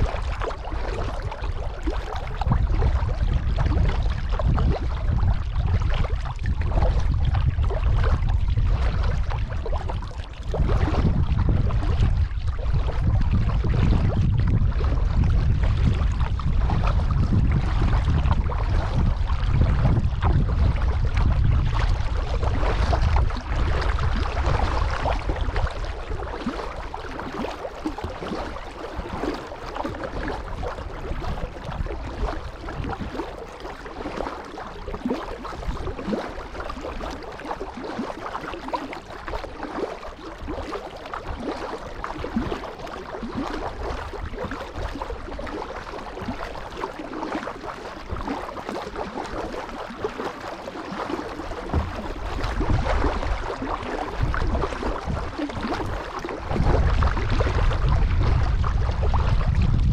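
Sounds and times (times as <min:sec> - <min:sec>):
water splashing around paddle: 0:00.0 - 0:59.9
wind rumble on microphone: 0:00.0 - 0:59.9.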